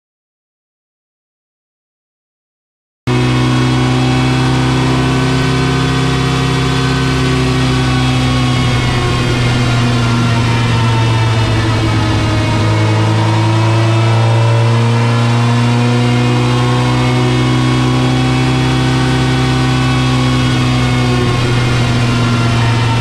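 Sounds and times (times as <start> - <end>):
car engine running under load: 3.1 - 23.0.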